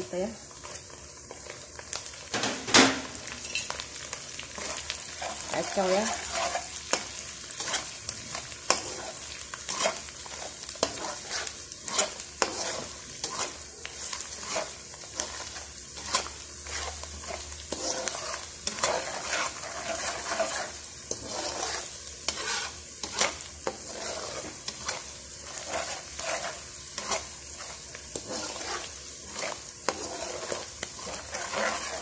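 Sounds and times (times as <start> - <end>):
paste sizzling in oil: 0.0 - 32.0
spatula scraping a wok: 0.0 - 32.0.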